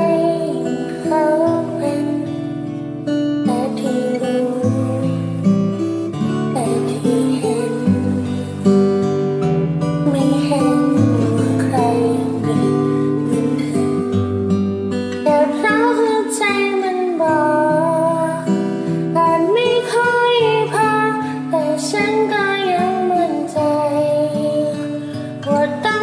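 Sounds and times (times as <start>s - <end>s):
guitar accompaniment: 0.0s - 26.0s
woman singing a ballad: 0.0s - 26.0s.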